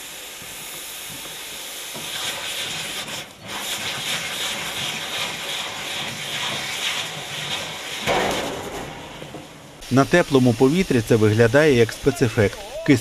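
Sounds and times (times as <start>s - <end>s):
hiss of escaping gas: 0.0s - 13.0s.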